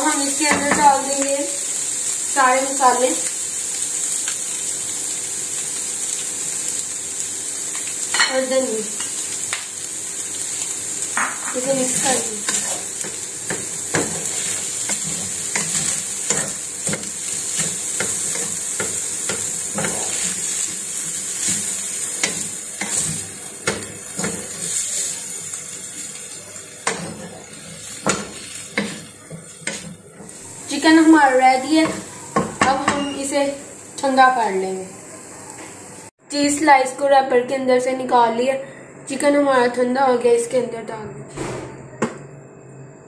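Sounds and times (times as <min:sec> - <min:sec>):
chicken sizzling in a frying pan: 0:00.0 - 0:36.2.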